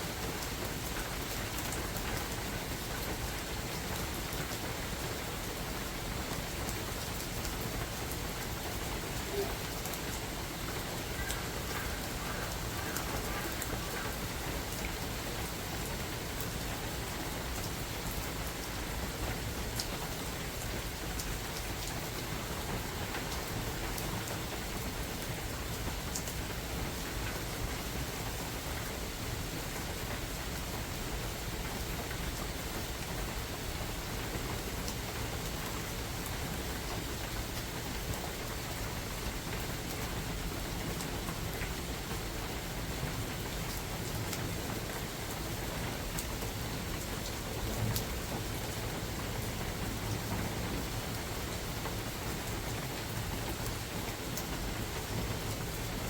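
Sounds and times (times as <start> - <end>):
rain falling through forest: 0.0 - 56.0.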